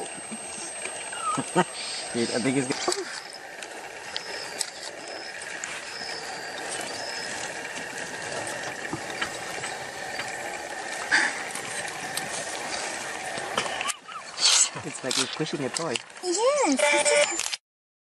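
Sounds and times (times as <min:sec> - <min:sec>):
dry rasping rattle: 0:00.2 - 0:16.1.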